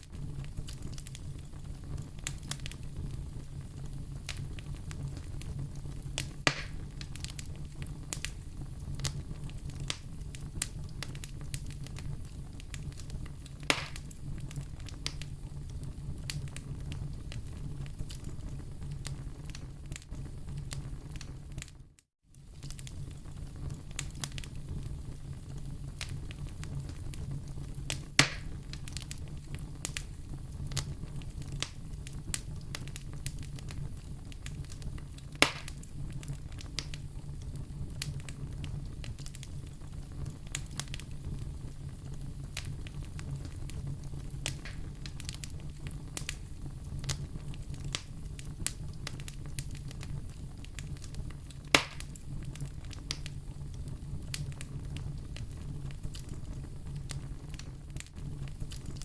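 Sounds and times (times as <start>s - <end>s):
fire popping loudly: 0.0s - 59.0s
wood fire crackling: 0.0s - 59.0s.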